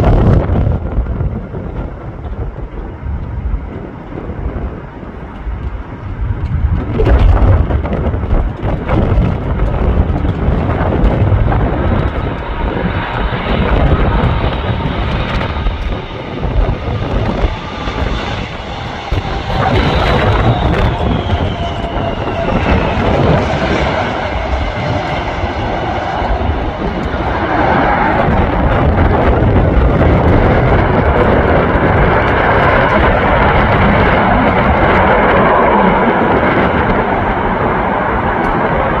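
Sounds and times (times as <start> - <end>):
jet engine roar: 0.0 - 39.0
jet engine whine: 0.0 - 39.0
wind rumble on microphone: 0.0 - 39.0.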